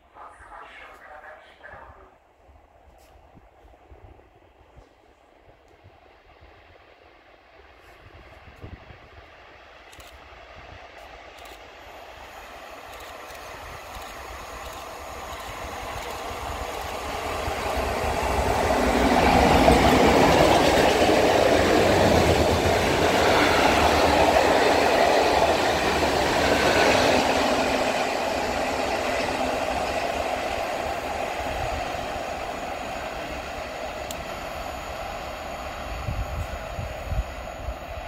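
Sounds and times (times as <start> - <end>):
freight train rumbling past: 3.6 - 38.0.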